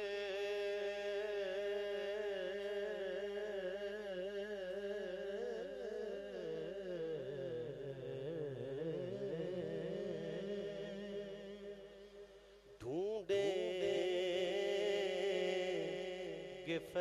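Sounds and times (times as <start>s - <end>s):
man singing melisma: 0.0s - 17.0s.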